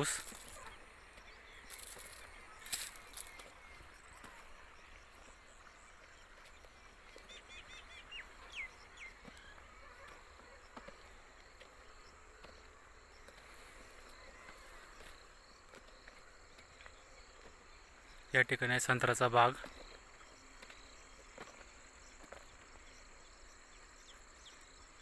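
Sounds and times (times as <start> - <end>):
faint high insect hum: 0.0 - 25.0.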